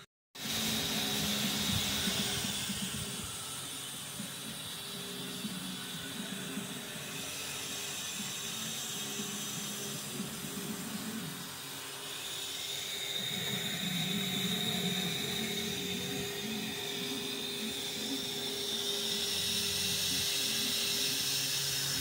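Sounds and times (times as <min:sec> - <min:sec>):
chairlift hiss and hum: 0:00.0 - 0:22.0
high steady whine: 0:00.0 - 0:22.0.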